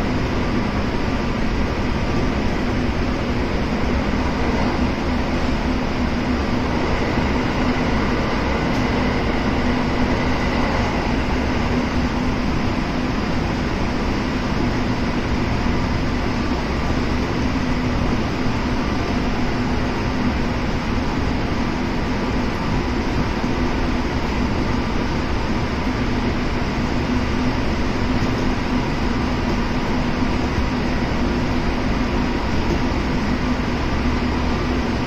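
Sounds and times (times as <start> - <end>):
steady train hum: 0.0 - 35.0
train wheels rumbling: 0.0 - 35.0.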